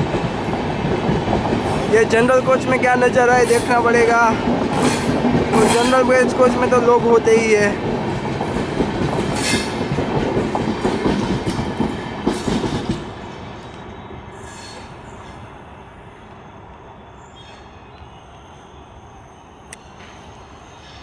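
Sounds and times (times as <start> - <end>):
train coaches rolling past: 0.0 - 21.0.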